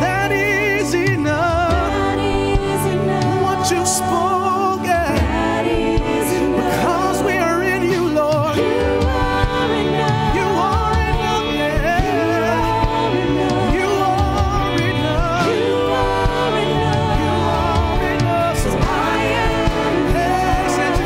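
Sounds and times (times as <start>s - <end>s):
worship band playing: 0.0s - 21.0s.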